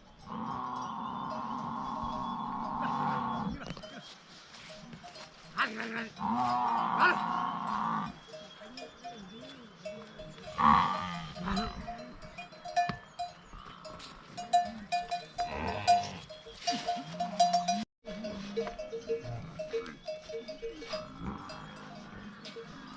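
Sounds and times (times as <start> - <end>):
animals calling: 0.0 - 17.8, 18.8 - 22.9
livestock bells clinking: 0.0 - 22.9.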